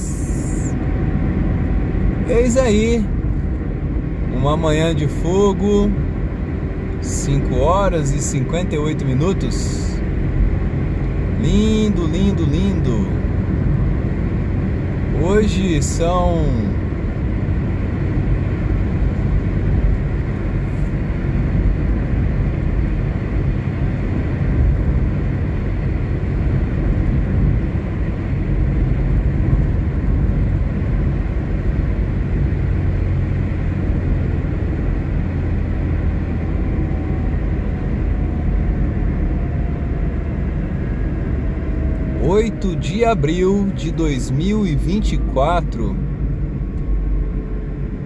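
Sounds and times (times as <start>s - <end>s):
car engine hum: 0.0s - 48.0s
tyres rumbling on asphalt: 0.0s - 48.0s.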